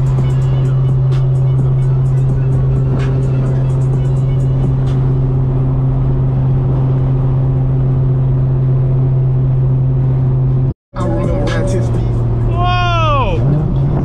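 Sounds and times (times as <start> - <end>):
car engine droning: 0.0 - 14.0
road and tyre noise: 0.0 - 14.0.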